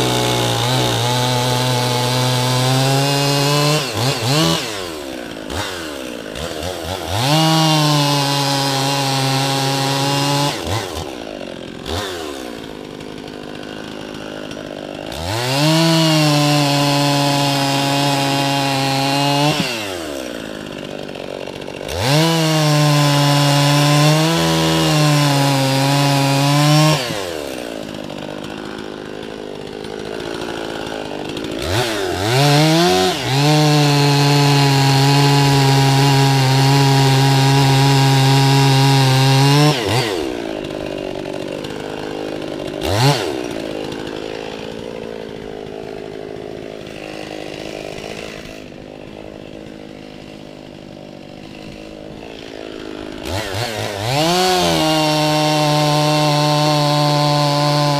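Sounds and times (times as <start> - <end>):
chainsaw cutting and idling: 0.0 - 57.9.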